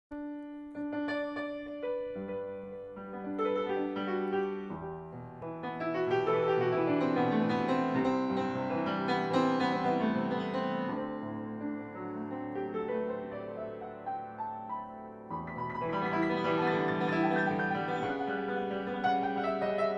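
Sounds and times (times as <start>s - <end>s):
grand piano playing: 0.2s - 19.9s.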